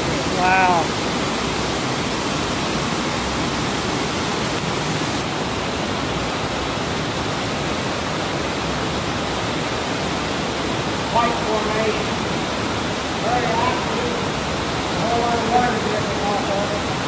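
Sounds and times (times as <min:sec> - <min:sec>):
stream cascading over ledges: 0:00.0 - 0:17.0.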